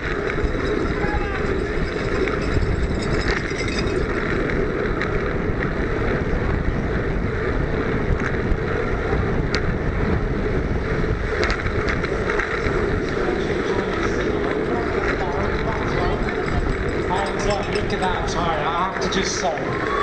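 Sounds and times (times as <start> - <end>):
tyre and road rumble: 0.0 - 20.0
wind on microphone: 0.0 - 20.0.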